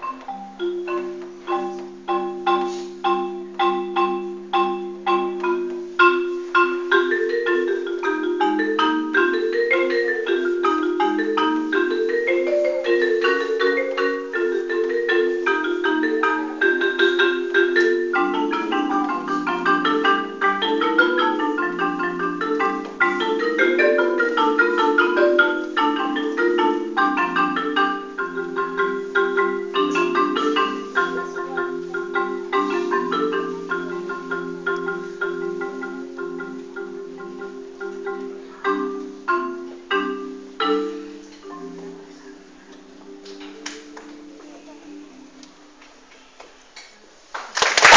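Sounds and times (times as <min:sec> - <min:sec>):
solo marimba melody: 0:00.0 - 0:46.4.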